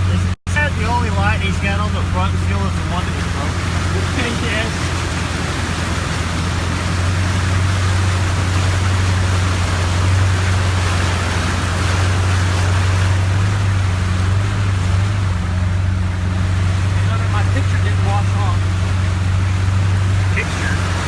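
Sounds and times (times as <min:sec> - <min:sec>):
car engine humming: 0:00.0 - 0:21.0
water sloshing and spraying: 0:00.0 - 0:21.0.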